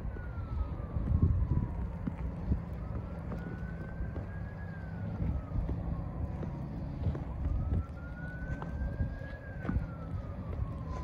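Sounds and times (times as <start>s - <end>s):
siren wailing: 0.0s - 11.0s
wind rumble on microphone: 0.0s - 11.0s.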